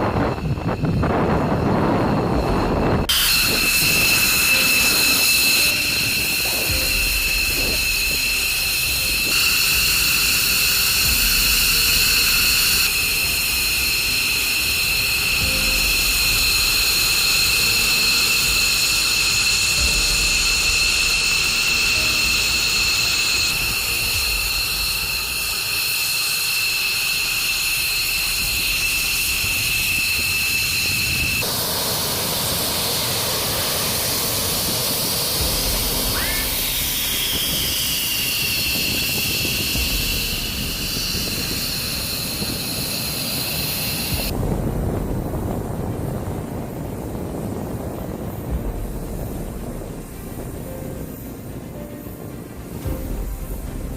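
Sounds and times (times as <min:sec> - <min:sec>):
jet engines whining: 0:00.0 - 0:53.9.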